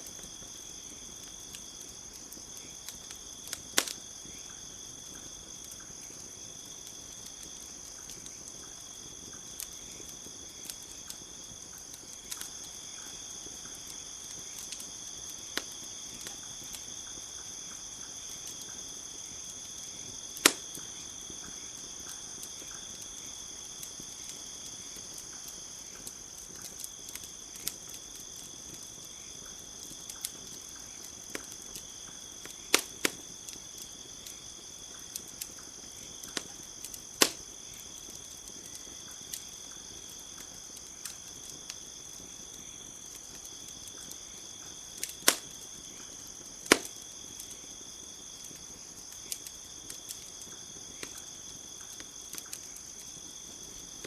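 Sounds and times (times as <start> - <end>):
campfire crackling and popping: 0.0 - 54.0
crickets chirping: 0.0 - 54.0.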